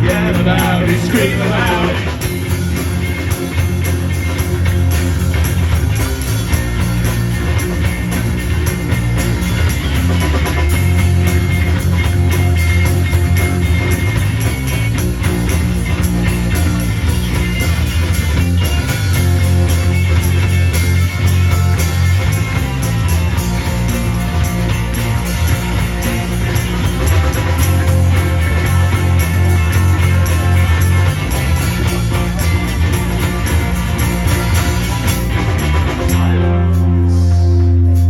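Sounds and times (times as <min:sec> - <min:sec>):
driving drum kit: 0:00.0 - 0:38.0
electric guitar: 0:00.0 - 0:38.0
heavy bass guitar line: 0:00.0 - 0:38.0.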